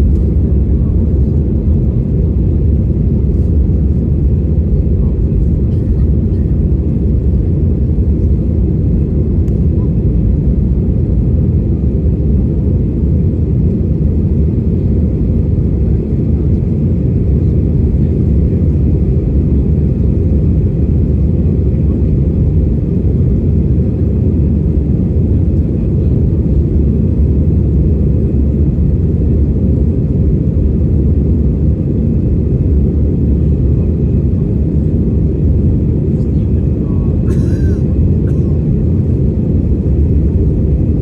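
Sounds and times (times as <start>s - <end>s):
airliner engines rumbling: 0.0s - 41.0s.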